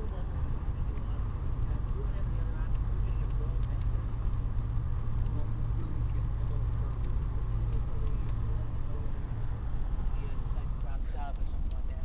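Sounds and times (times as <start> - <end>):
car road and engine rumble: 0.0 - 12.0
faint muffled voices: 0.0 - 12.0
light ticks: 0.0 - 12.0.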